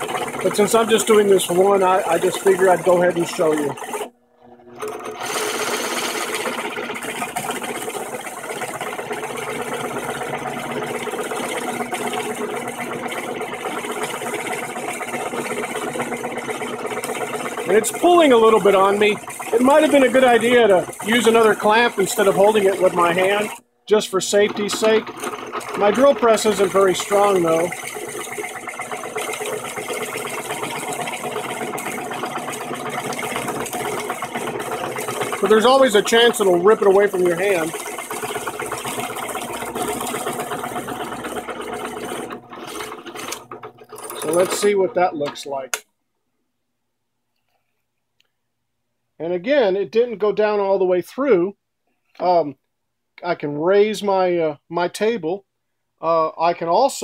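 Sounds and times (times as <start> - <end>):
drill press boring wood: 0.0 - 45.8.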